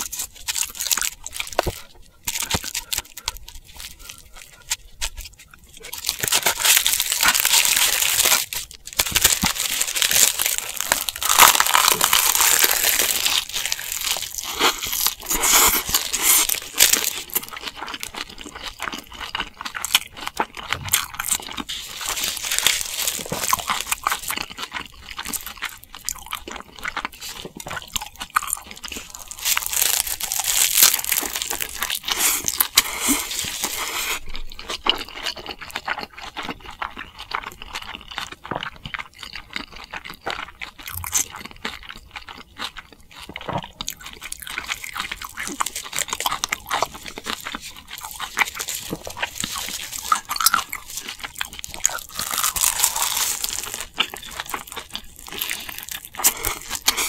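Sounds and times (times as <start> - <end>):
dried seaweed crunching while chewing: 0.0 - 57.0.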